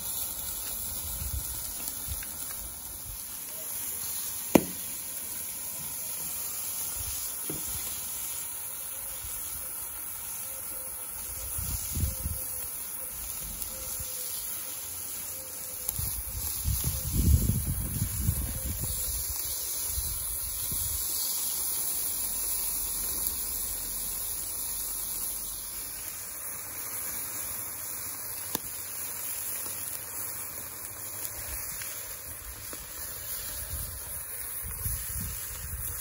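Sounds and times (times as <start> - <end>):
meat sizzling on a grill: 0.0 - 36.0.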